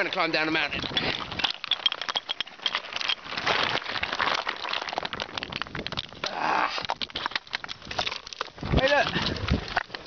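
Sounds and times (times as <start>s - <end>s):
crackling scraping and clicking: 0.0s - 10.0s.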